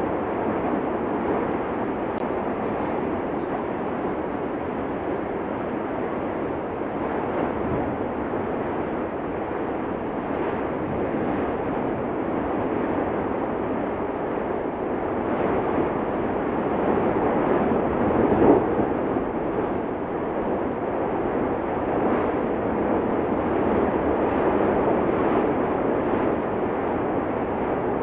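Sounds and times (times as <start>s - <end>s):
volcano rumbling: 0.0s - 28.0s.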